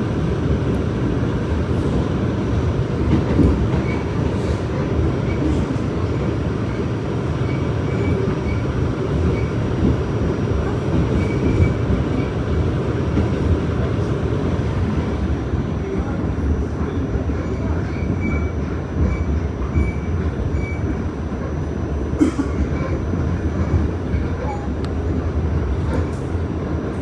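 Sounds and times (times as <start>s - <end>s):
subway train rolling: 0.0s - 27.0s.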